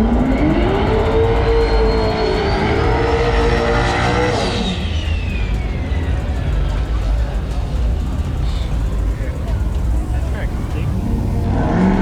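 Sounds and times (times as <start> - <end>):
truck engine revving: 0.0 - 11.6
turbo whistle: 0.3 - 11.4.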